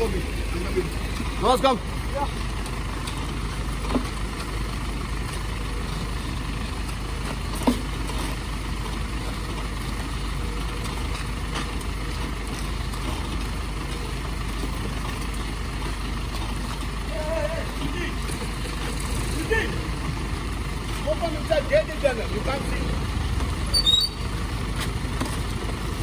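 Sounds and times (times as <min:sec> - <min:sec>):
minibus engine idling: 0:00.0 - 0:26.0.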